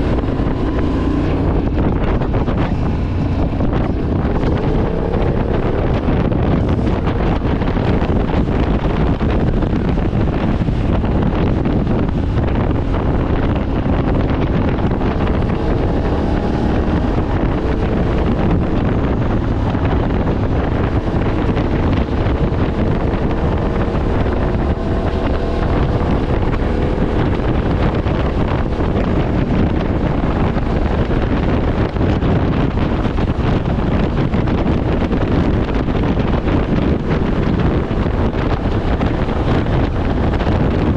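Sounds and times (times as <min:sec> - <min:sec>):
motorcycle engine: 0:00.0 - 0:40.9
wind buffeting microphone: 0:00.0 - 0:40.9.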